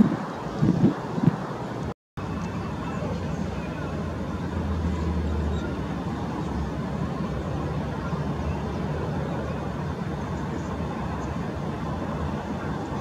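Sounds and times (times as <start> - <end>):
distant jet engines: 0.0 - 13.0.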